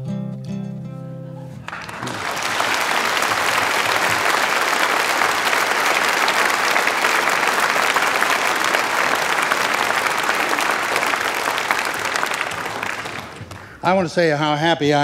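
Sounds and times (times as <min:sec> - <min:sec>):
audience applauding: 0:01.6 - 0:14.1.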